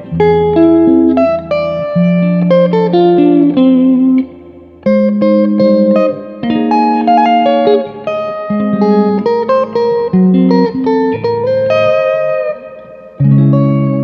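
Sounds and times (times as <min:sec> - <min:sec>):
electric guitar playing: 0:00.0 - 0:14.0.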